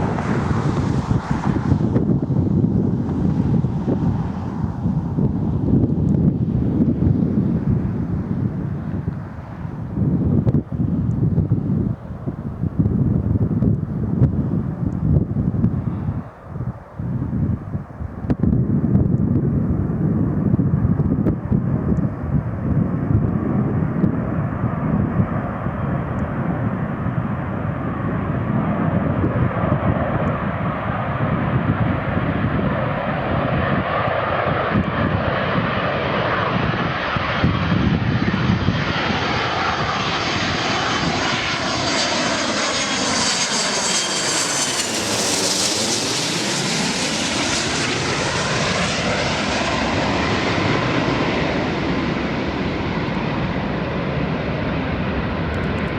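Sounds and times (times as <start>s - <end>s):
jet plane approaching and passing: 0.0s - 55.9s.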